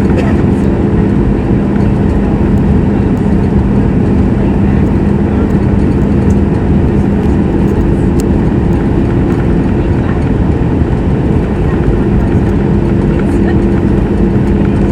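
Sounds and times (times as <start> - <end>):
jet engine cabin rumble: 0.0 - 14.9
low hum: 0.0 - 14.9.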